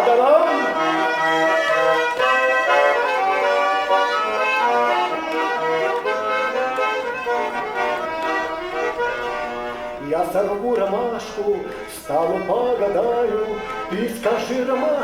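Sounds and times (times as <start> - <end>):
button accordion melody: 0.0 - 15.0.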